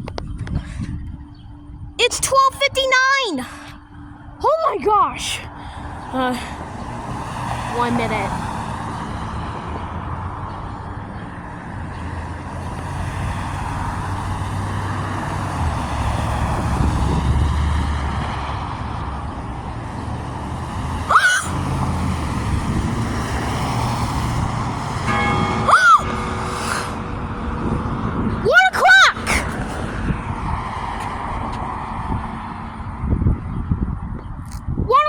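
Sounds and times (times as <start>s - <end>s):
steady road noise: 0.0s - 35.0s
passing vehicle rumble: 3.4s - 34.9s.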